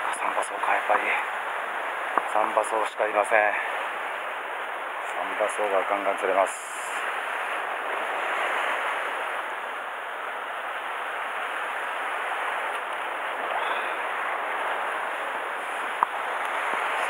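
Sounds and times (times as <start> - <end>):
sea surf on rocky shore: 0.0 - 17.0.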